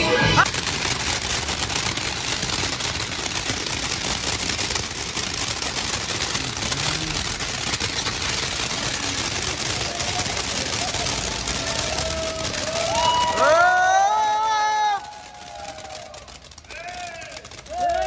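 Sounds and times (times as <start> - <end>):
fireworks spraying sparks with crackling: 0.0 - 18.0.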